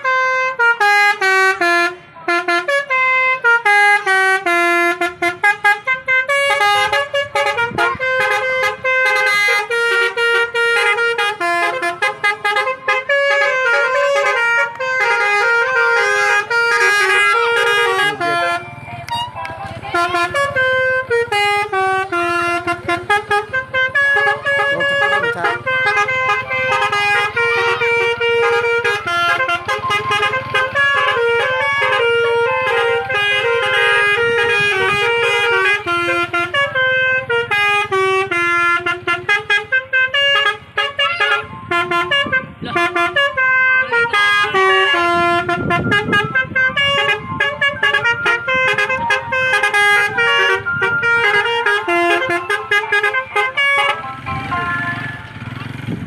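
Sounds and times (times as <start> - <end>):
bus musical horn tune: 0.0 - 56.0.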